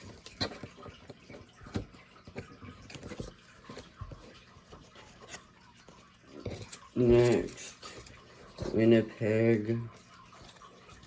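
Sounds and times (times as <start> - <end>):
trading cards rustling: 0.0 - 9.2.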